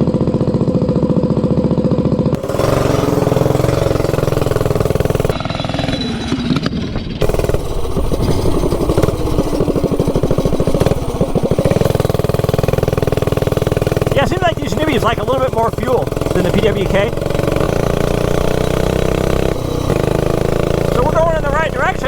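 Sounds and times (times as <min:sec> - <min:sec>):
minibike engine revving: 0:00.0 - 0:22.0.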